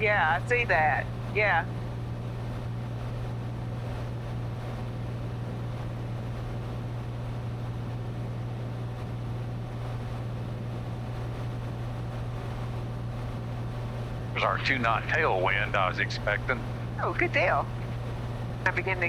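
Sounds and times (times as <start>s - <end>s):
aircraft engine drone: 0.0s - 19.0s.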